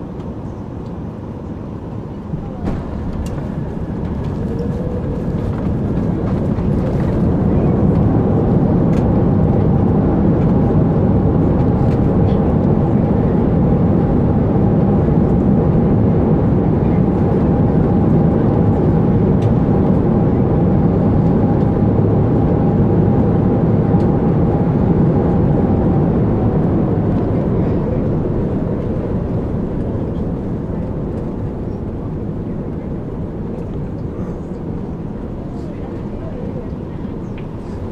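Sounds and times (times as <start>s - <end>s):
aircraft cabin engine rumble: 0.0s - 37.9s.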